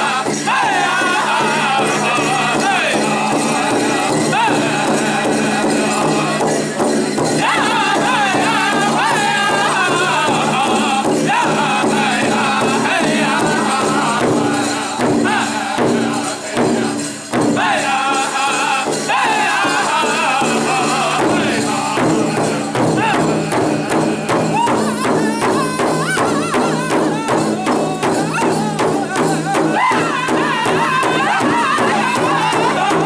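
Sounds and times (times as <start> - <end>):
high voices singing in unison: 0.0 - 33.0
large drum beat: 0.0 - 33.0.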